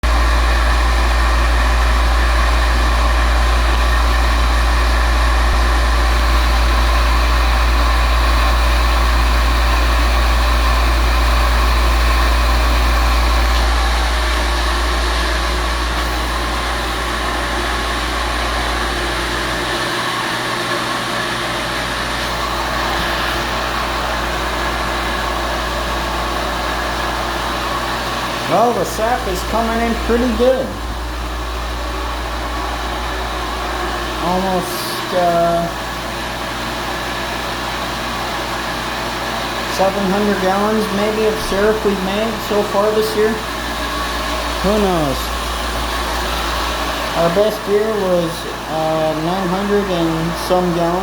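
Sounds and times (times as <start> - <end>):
sap pump humming: 0.0 - 51.0.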